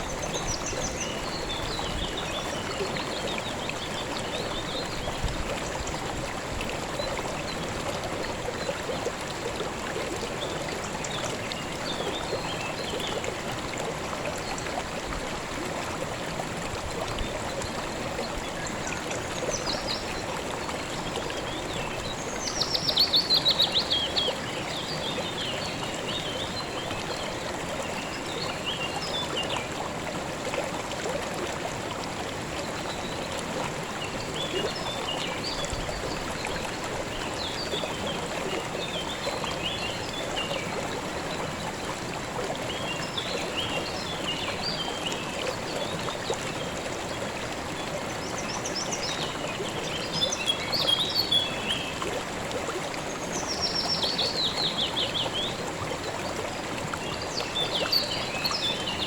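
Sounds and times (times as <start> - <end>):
creek flowing over stones: 0.0 - 59.0.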